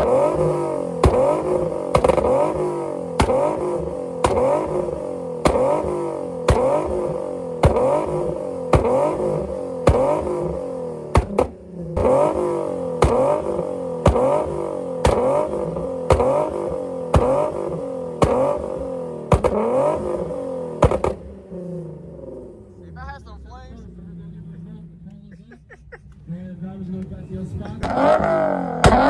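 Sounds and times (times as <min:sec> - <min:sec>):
exhaust bang: 0:00.0 - 0:22.4, 0:27.7 - 0:29.0
car engine revving: 0:00.0 - 0:29.0.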